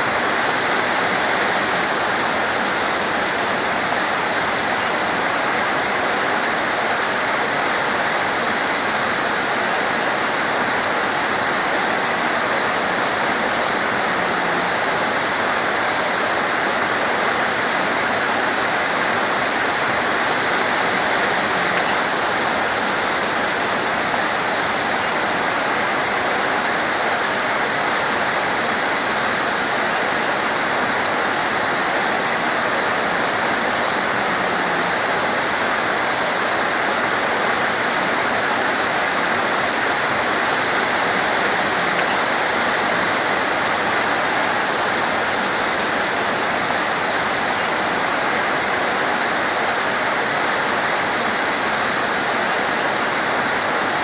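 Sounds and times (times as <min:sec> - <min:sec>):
torrential rain pouring: 0:00.0 - 0:54.0.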